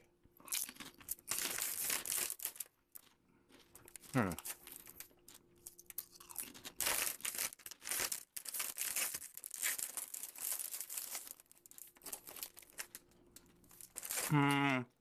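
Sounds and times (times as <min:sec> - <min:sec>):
potato chips being crunched: 0:00.4 - 0:03.1, 0:03.9 - 0:14.6.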